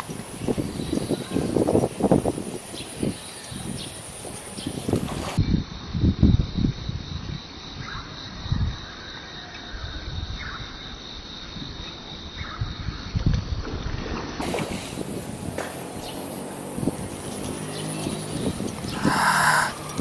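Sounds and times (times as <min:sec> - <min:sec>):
wind buffeting microphone: 0:00.0 - 0:08.9, 0:09.8 - 0:20.0
high insect drone: 0:00.1 - 0:13.3, 0:14.5 - 0:20.0.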